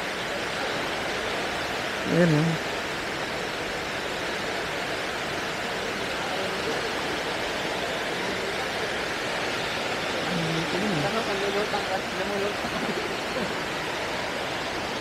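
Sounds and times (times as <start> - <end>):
water rushing through dam gates: 0.0 - 15.0.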